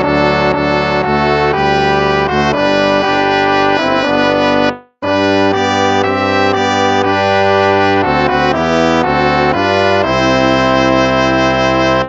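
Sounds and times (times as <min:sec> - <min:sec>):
brass hymn chords: 0:00.0 - 0:12.0.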